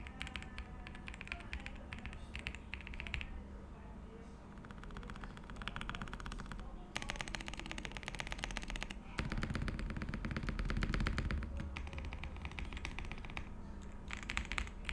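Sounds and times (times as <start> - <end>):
fast typing on mechanical keyboard: 0.0 - 3.4, 4.5 - 14.9.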